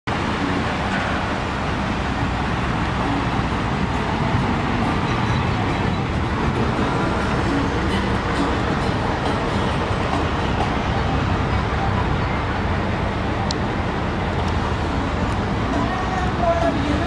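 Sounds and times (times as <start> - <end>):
rumbling traffic noise: 0.0 - 17.0.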